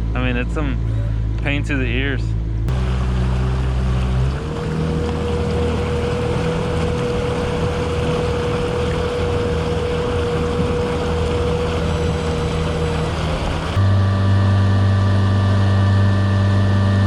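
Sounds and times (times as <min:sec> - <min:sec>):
outboard motor running: 0:00.0 - 0:17.0
rush of wind and water: 0:02.7 - 0:17.0.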